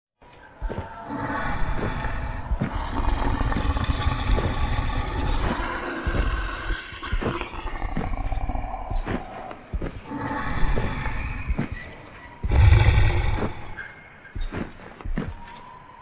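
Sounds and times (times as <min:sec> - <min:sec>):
elephant growling: 0:01.0 - 0:13.9
elephant low rumbling: 0:01.0 - 0:13.9.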